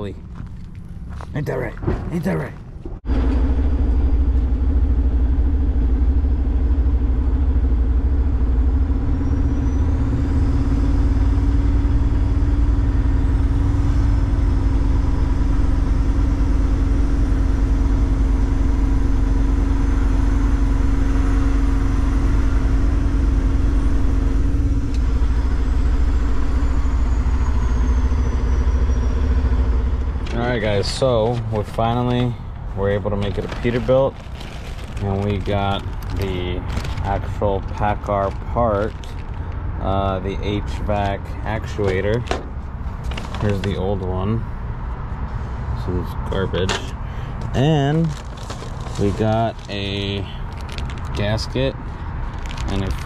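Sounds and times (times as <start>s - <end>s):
diesel truck engine drone: 0.0s - 53.0s
road noise: 0.0s - 53.0s.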